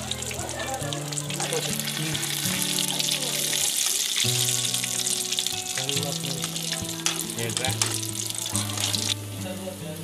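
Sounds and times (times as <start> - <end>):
background music: 0.0 - 10.0
fish sizzling in hot oil: 0.0 - 10.0.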